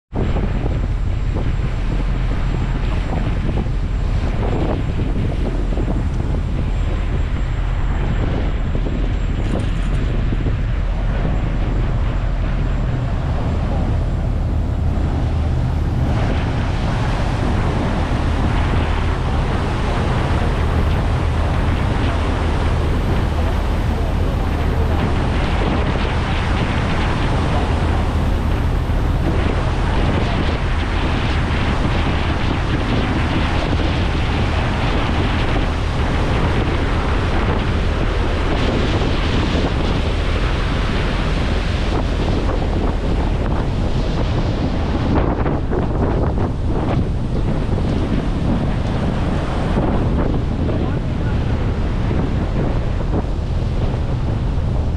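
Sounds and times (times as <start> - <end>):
wind buffeting microphone: 0.1 - 54.9
ship engines droning: 0.2 - 54.9
water rushing past hull: 0.3 - 54.9.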